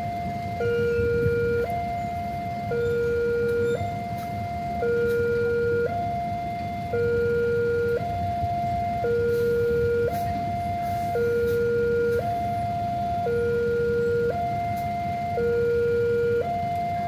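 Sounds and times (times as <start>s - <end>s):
level crossing two-tone alarm: 0.0s - 17.0s
steady low rumble: 0.0s - 17.0s.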